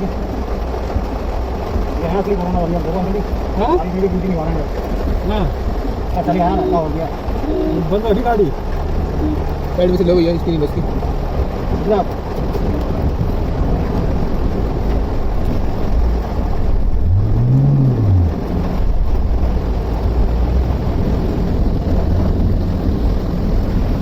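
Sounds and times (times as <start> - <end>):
rushing water and rain: 0.0 - 24.0.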